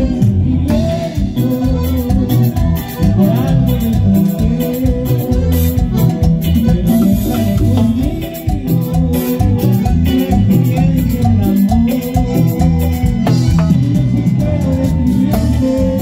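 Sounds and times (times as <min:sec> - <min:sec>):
live band playing latin dance music: 0:00.0 - 0:16.0.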